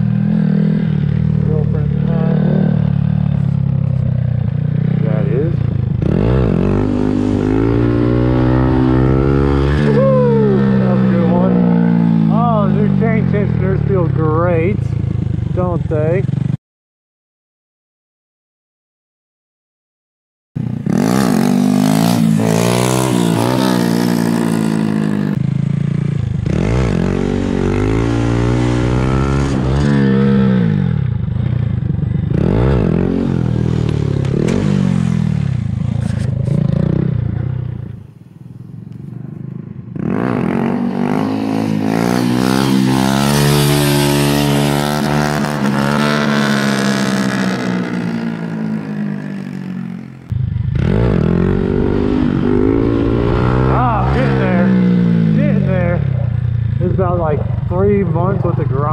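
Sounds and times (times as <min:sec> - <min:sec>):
motorcycle engine revving: 0:00.0 - 0:16.6, 0:20.6 - 0:58.9.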